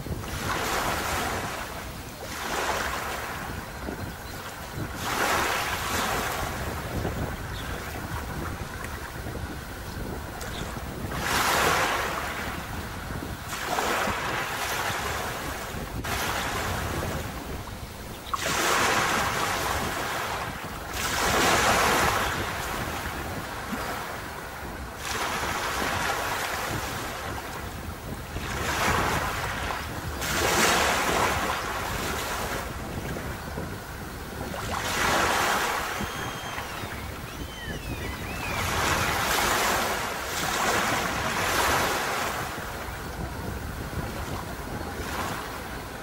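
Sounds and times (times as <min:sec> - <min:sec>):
sea waves breaking on beach: 0:00.0 - 0:46.0
wind rumble on microphone: 0:00.0 - 0:46.0.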